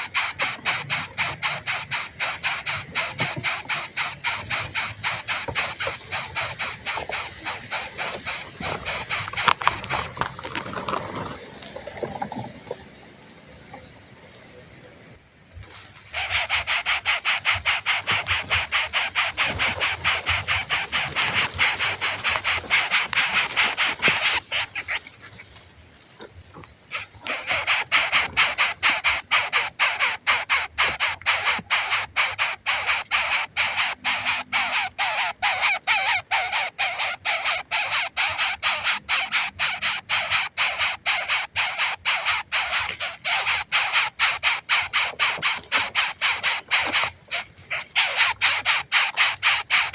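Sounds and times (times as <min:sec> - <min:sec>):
young bird begging calls: 0:00.0 - 0:10.1, 0:16.2 - 0:25.1, 0:27.3 - 0:49.9.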